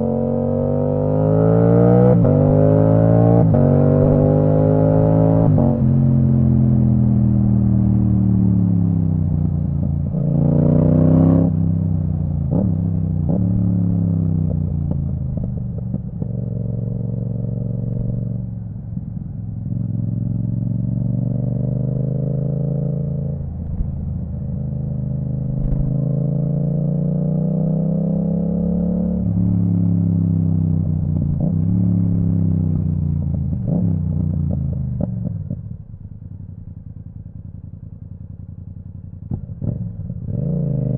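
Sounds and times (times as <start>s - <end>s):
motorcycle engine revving: 0.0s - 18.9s, 19.6s - 36.8s, 37.5s - 40.9s.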